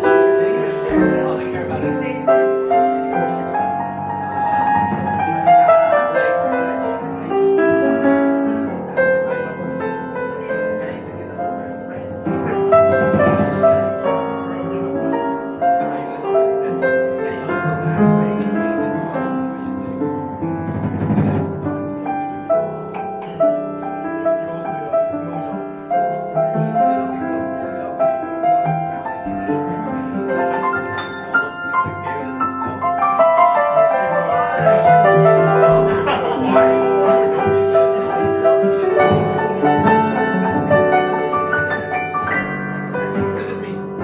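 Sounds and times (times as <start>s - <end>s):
jazz piano playing: 0.0s - 44.0s.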